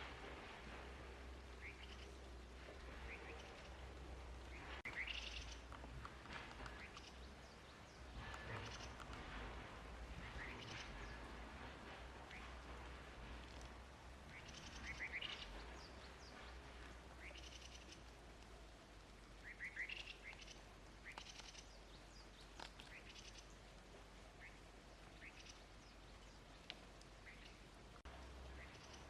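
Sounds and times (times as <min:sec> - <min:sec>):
small birds chirping: 0:01.4 - 0:09.3, 0:10.1 - 0:11.5, 0:14.3 - 0:29.0.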